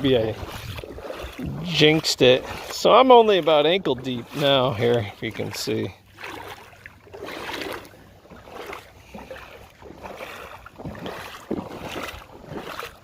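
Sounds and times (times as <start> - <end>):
feet wading through water: 0.0 - 13.0.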